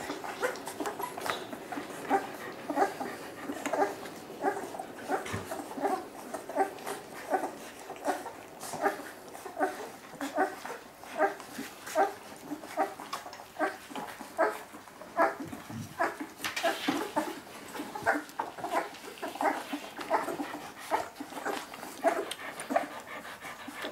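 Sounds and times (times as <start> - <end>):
puppies whimpering and squeaking: 0.0 - 23.9.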